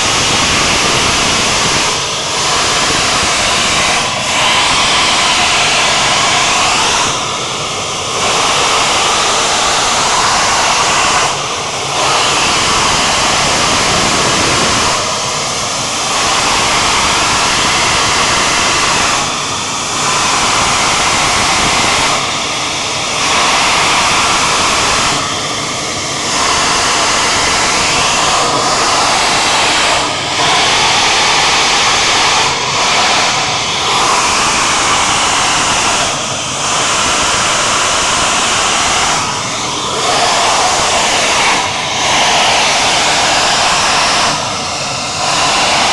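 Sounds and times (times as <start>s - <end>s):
high pressure gas hissing jet: 0.0s - 45.9s.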